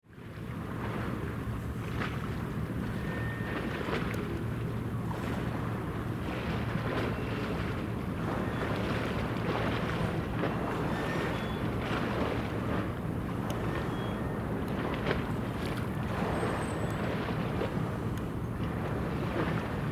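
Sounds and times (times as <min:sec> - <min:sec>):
boat engine humming: 0:00.4 - 0:19.9
wind on microphone: 0:00.6 - 0:19.9
water rushing: 0:02.4 - 0:19.9.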